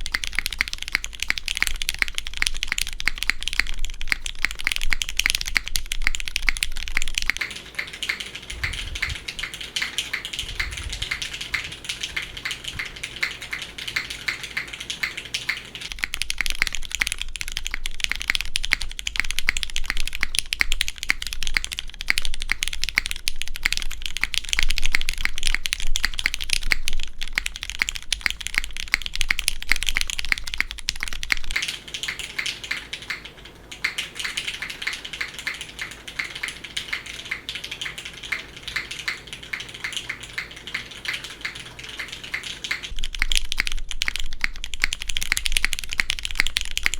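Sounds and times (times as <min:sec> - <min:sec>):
fast typing on mechanical keyboard: 0:00.0 - 0:46.9.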